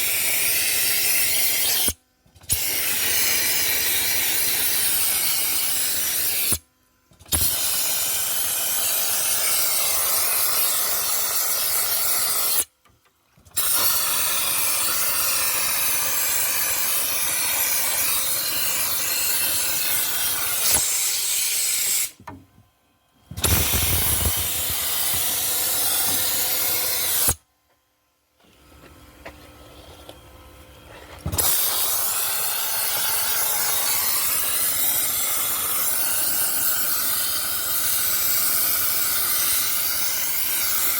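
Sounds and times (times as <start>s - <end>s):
dry ice blasting gun hissing: 0.0s - 6.6s, 7.3s - 12.7s, 13.6s - 22.2s, 23.4s - 27.4s, 31.3s - 40.9s.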